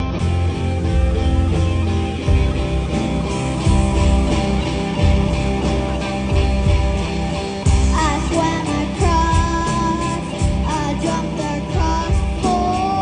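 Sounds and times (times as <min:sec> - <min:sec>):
guitar music with heavy bass: 0:00.0 - 0:13.0.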